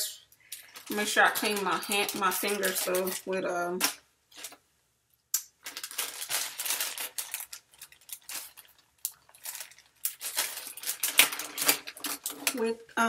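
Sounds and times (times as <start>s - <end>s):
plastic packaging crinkling: 0.0s - 4.6s, 5.5s - 12.8s.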